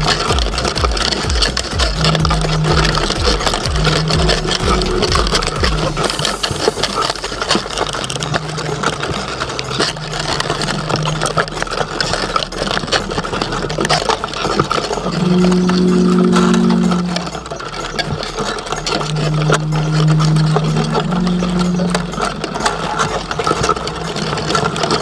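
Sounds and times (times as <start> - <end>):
crab shells clicking and scraping: 0.0 - 25.0
low underwater hum: 0.0 - 25.0.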